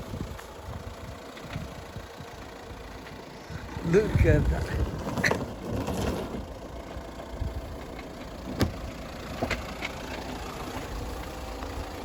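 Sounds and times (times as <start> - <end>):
jeep engine running: 0.0 - 12.0.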